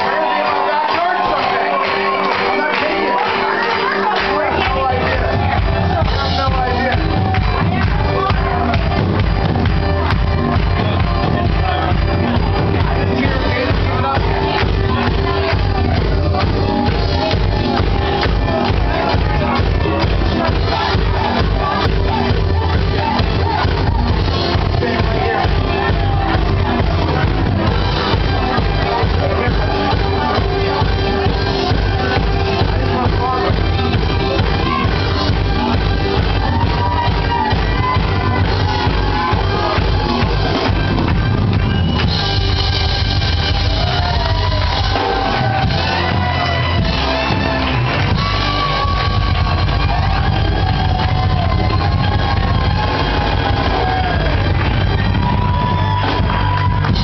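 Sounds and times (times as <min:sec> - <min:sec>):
live disco-funk band: 0:00.0 - 0:57.0.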